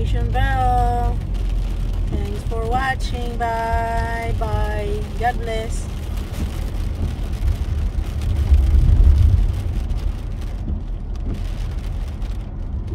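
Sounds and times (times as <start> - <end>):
low road rumble: 0.0 - 12.9.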